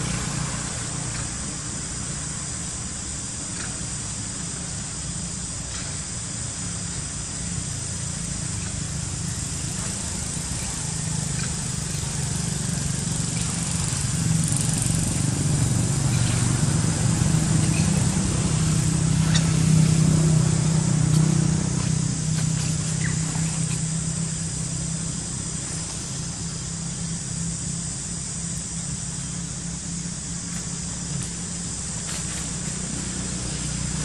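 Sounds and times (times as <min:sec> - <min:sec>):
steady high hiss: 0:00.0 - 0:34.0
motor engine running: 0:06.6 - 0:34.0.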